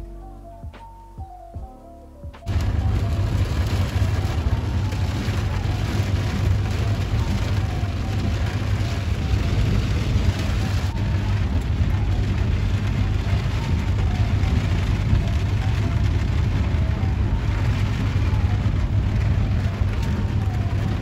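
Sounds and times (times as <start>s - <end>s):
steady low rumble: 0.0s - 21.0s
heavy rain on car roof: 2.5s - 21.0s.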